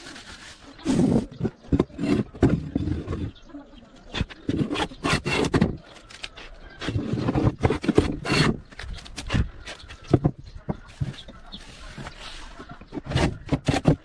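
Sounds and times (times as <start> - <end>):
scraping on wood: 0.0 - 3.4, 4.0 - 14.0.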